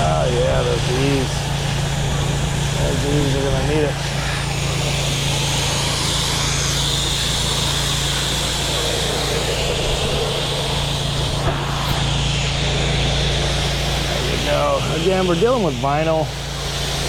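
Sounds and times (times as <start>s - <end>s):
pressure washer engine running: 0.0s - 17.0s
water spray hissing: 0.6s - 17.0s.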